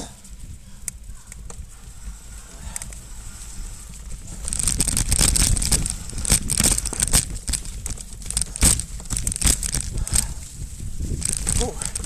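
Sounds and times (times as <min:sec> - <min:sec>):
steady low rumble: 0:00.0 - 0:12.0
bike tyres crunching dry leaves: 0:01.3 - 0:12.0.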